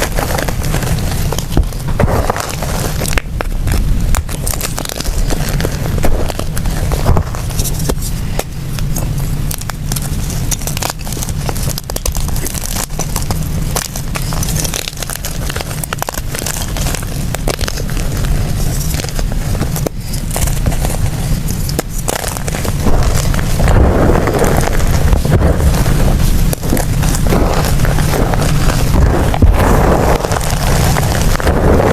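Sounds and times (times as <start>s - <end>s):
chalk crumbling crackles: 0.0s - 31.9s
low rumble: 0.0s - 31.9s.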